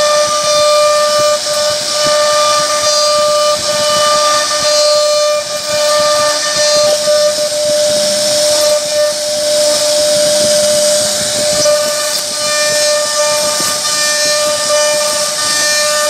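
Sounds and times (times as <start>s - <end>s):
hiss of wood being cut: 0.0s - 16.0s
router spindle whine: 0.0s - 16.0s.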